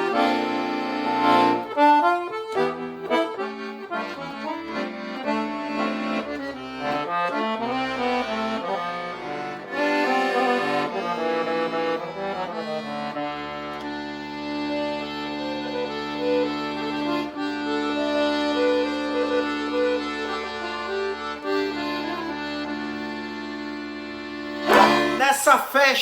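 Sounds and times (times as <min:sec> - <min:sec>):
accordion playing: 0:00.0 - 0:26.0.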